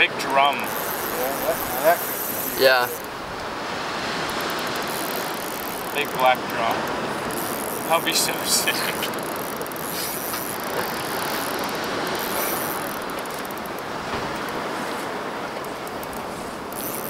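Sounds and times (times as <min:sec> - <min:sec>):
wind and water rushing: 0:00.0 - 0:17.0
fishing reel ratcheting: 0:00.2 - 0:03.2, 0:04.0 - 0:14.6, 0:15.6 - 0:17.0.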